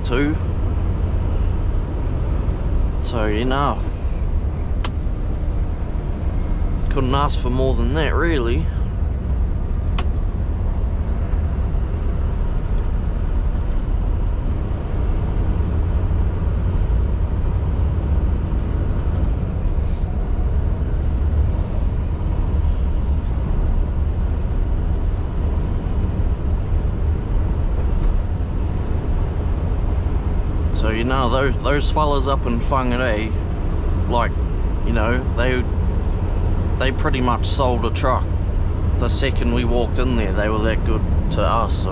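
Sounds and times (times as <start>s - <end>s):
road and tyre noise: 0.0s - 41.9s
truck engine drone: 0.0s - 41.9s.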